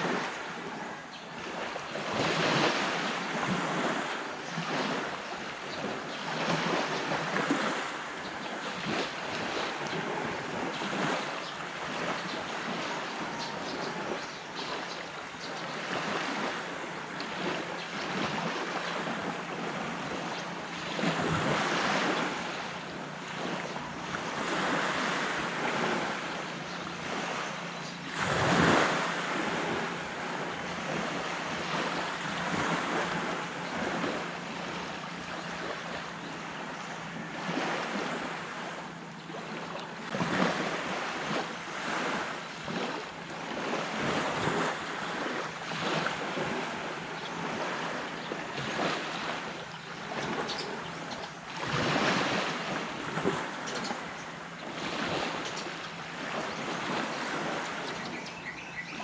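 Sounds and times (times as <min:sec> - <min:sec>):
sea waves breaking: 0:00.0 - 0:59.0.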